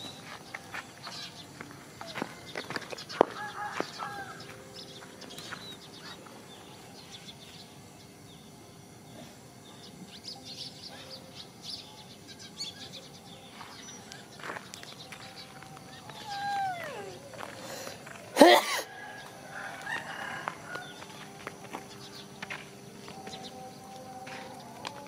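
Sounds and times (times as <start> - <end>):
birds chirping: 0.0 - 25.0
faint steady hum: 0.0 - 25.0.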